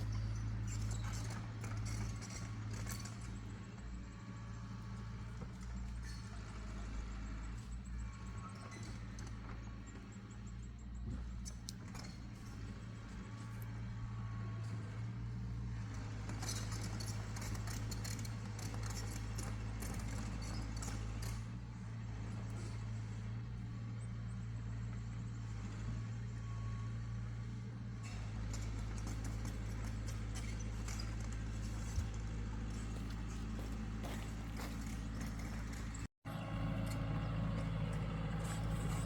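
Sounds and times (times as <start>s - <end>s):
heavy engine running: 0.0s - 39.0s.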